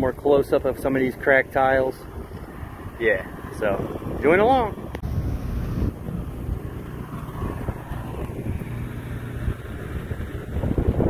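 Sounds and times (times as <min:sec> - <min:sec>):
wind on microphone: 0:01.8 - 0:11.0.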